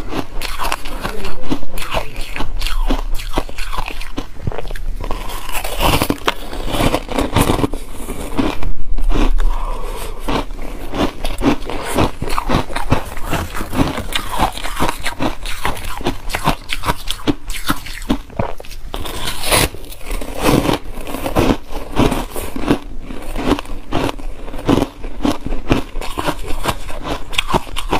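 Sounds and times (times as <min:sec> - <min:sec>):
chewing crunchy ice: 0:00.0 - 0:27.9.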